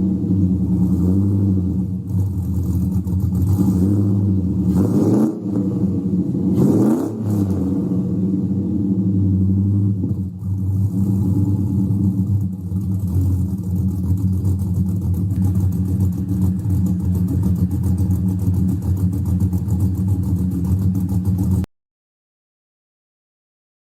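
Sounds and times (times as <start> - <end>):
engine running with choppy beat: 0.0 - 21.7.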